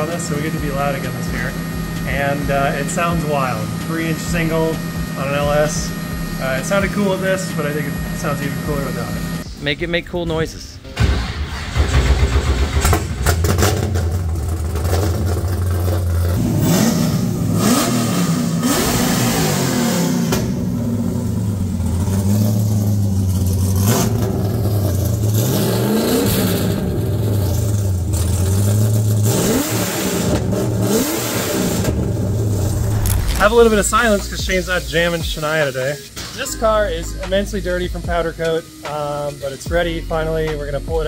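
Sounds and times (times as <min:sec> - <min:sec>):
loud car engine revving: 0:00.0 - 0:09.5, 0:11.6 - 0:35.6.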